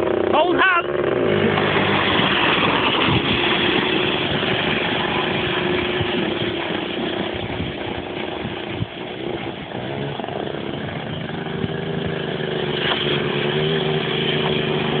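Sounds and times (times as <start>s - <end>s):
loud rushing noise: 0.0s - 15.0s
quad engine running: 0.0s - 15.0s.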